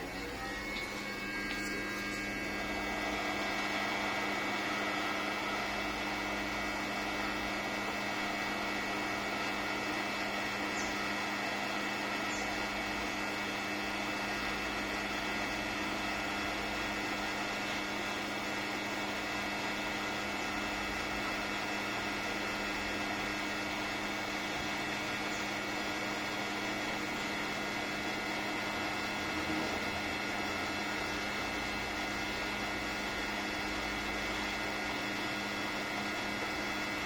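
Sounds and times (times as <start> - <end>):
electrical hum: 0.0 - 37.0
hot air station blowing: 0.0 - 37.0.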